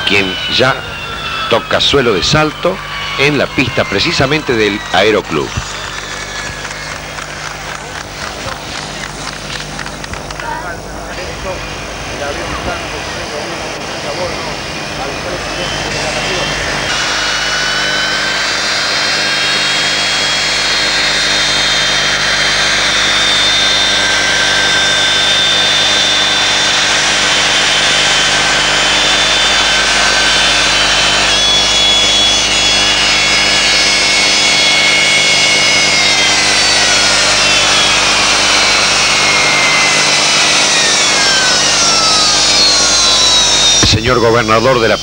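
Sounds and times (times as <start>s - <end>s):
jet engines whining: 0.0s - 45.0s.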